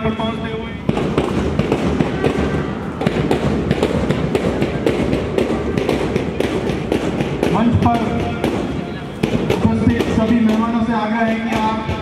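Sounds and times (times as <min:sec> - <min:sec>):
bass and snare drums marching: 0:00.8 - 0:12.0.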